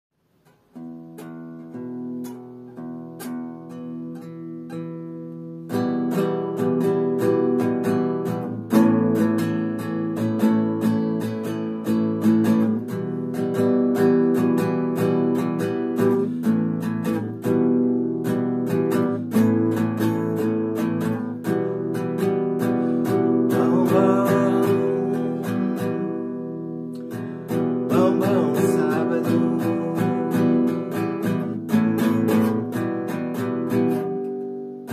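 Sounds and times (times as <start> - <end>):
acoustic guitar: 0.2 - 34.9.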